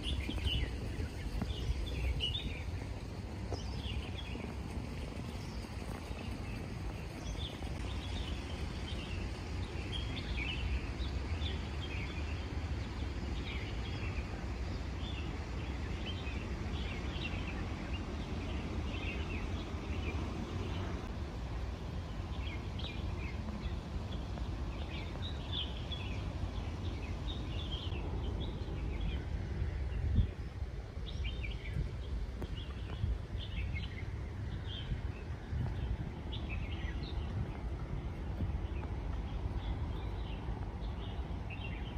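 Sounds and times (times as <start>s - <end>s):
small birds chirping: 0.0s - 21.2s, 22.0s - 41.9s
low outdoor rumble: 0.0s - 41.9s.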